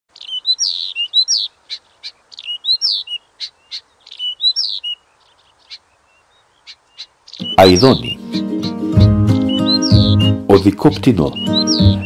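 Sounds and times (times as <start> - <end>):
songbird singing: 0.1 - 12.0.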